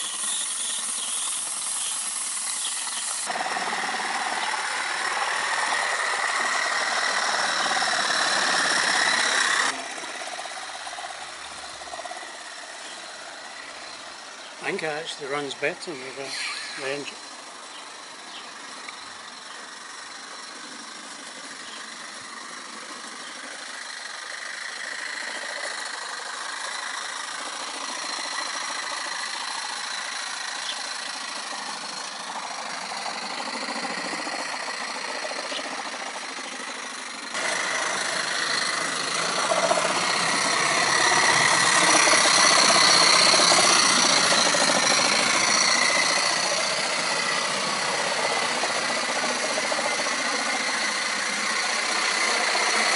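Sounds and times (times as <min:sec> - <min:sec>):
model steam locomotive running: 0:00.0 - 0:52.9.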